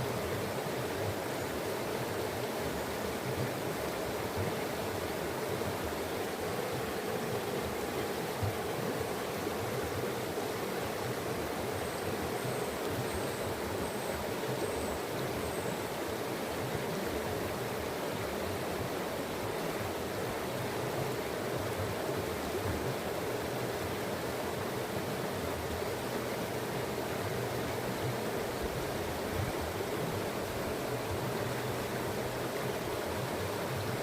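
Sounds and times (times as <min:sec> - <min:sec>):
flowing water rushing: 0:00.0 - 0:34.0.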